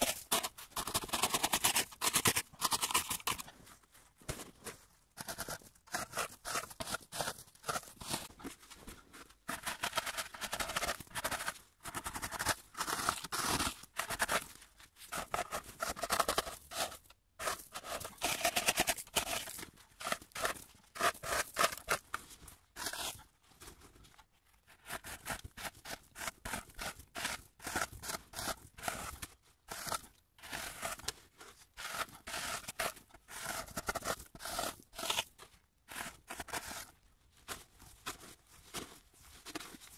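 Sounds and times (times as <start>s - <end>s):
tool scraping packed snow: 0.0s - 3.5s, 4.3s - 8.6s, 9.4s - 22.2s, 22.8s - 23.3s, 24.7s - 36.9s.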